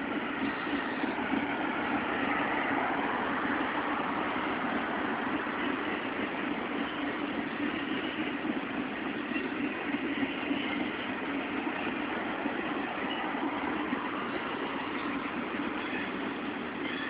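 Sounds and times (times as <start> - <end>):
steel wheels on rail: 0.0 - 17.0.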